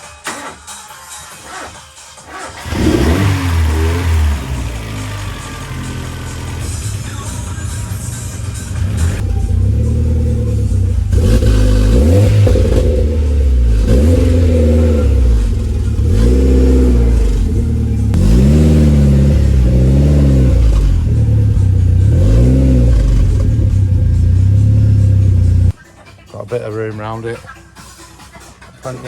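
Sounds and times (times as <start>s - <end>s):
car engine revving: 0.2s - 25.8s.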